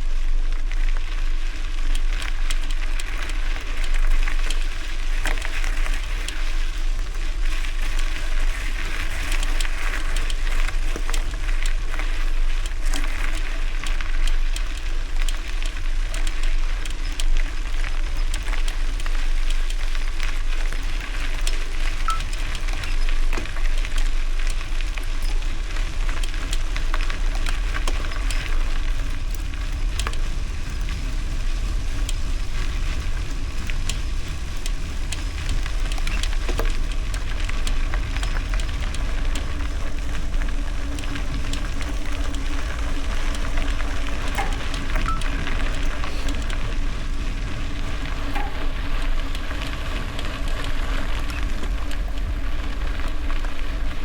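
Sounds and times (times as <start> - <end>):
bicycle tyres crunching on gravel: 0.0 - 54.0
wind rumble on microphone: 0.0 - 54.0.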